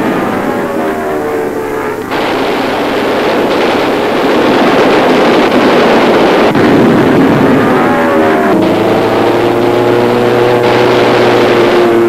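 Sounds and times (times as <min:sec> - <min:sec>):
aircraft engines roaring: 0:00.0 - 0:12.0.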